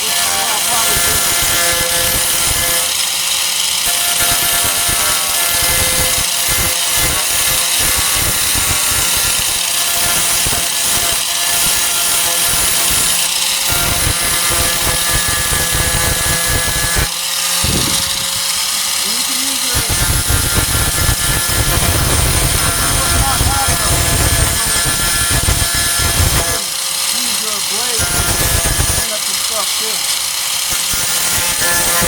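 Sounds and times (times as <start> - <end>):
angle grinder grinding metal: 0.0 - 32.0.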